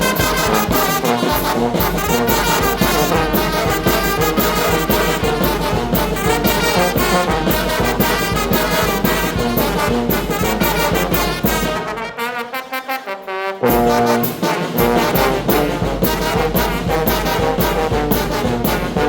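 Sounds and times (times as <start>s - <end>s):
drum beat: 0.0s - 12.1s, 13.6s - 19.0s
brass band playing: 0.0s - 19.0s.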